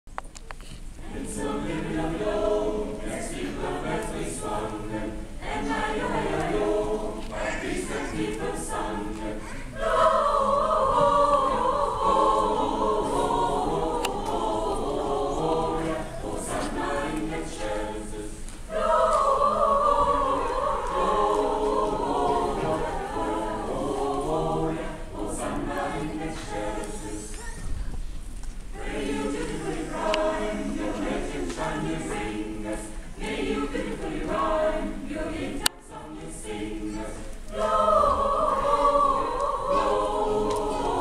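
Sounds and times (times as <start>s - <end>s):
mixed choir singing: 1.0s - 27.5s, 28.7s - 41.0s.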